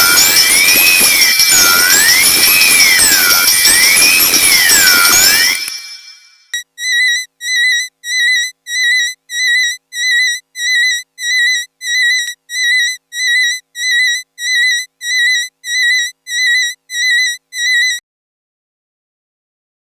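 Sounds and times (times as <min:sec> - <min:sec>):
warbling electronic beep: 0:00.0 - 0:18.0.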